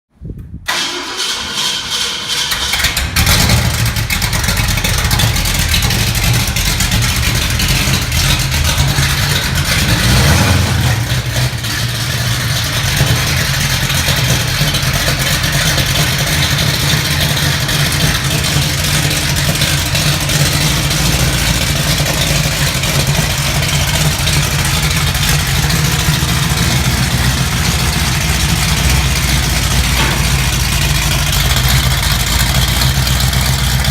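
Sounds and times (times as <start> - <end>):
engine starting and idling: 0.6 - 33.9
engine revving: 2.5 - 33.9.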